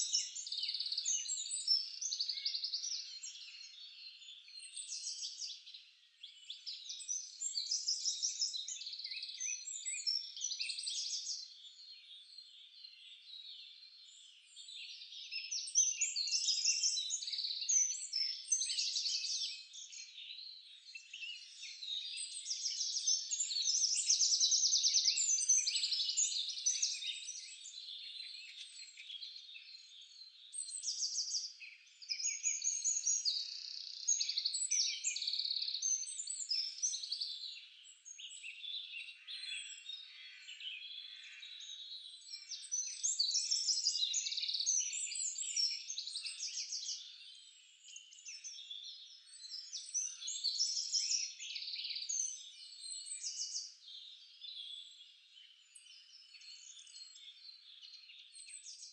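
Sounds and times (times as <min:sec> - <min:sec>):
birds chirping and trilling: 0:00.0 - 0:58.9.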